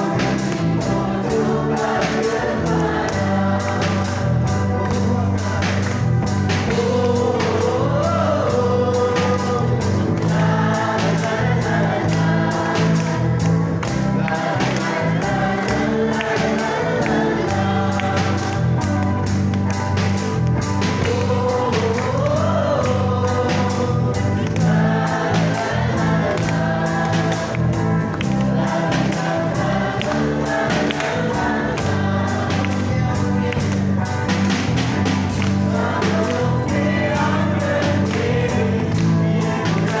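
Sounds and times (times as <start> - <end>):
acoustic guitar: 0.0 - 40.0
bass guitar: 0.0 - 40.0
electric guitar: 0.0 - 40.0
voices singing gospel song: 0.0 - 40.0.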